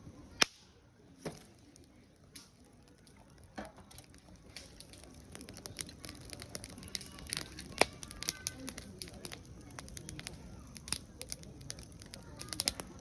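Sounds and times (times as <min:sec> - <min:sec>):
wood fire crackling: 0:00.0 - 0:13.0
loud fire pop: 0:00.3 - 0:13.0.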